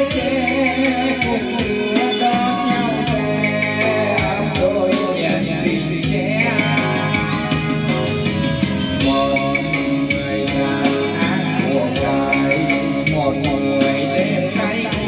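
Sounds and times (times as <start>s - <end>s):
song with drum beat: 0.0s - 15.0s.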